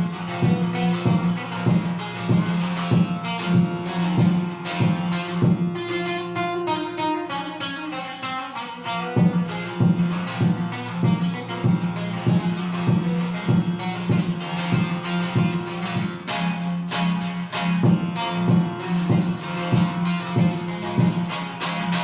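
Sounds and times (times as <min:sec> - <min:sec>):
long-necked lute plucked and strummed: 0:00.0 - 0:22.0.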